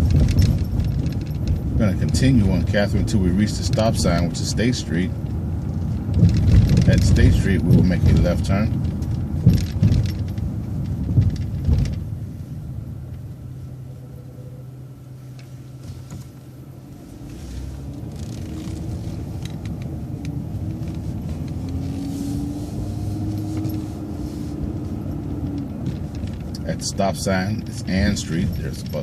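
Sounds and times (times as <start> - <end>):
light clicks and rattles: 0.0 - 12.5, 17.2 - 29.0
bus engine running: 0.0 - 29.0
drivetrain whine: 0.0 - 29.0.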